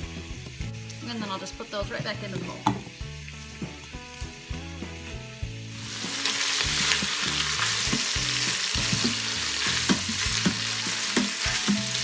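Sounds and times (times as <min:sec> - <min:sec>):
sausage sizzling in oil: 0:00.0 - 0:12.0.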